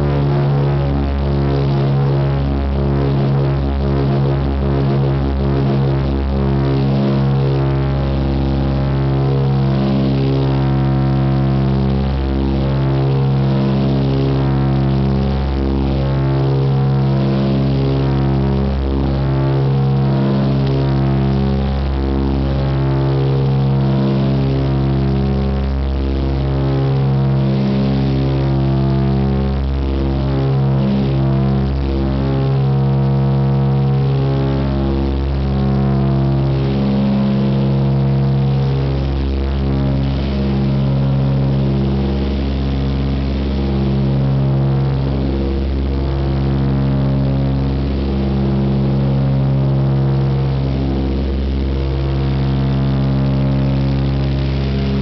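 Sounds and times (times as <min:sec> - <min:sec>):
propeller engines droning: 0:00.0 - 0:55.0.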